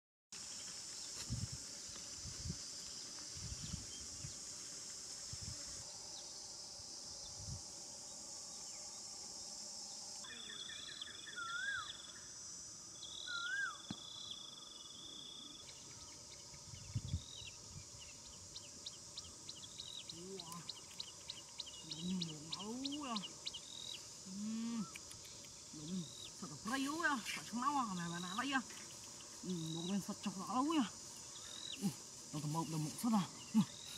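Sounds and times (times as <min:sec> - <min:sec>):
high insect drone: 0:00.4 - 0:33.9.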